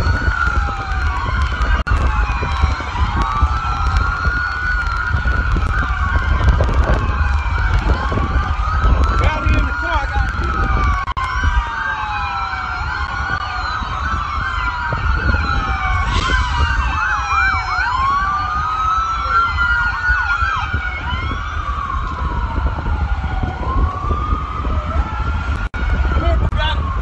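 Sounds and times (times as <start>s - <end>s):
emergency sirens wailing: 0.0s - 27.0s
siren fast yelp: 0.0s - 27.0s.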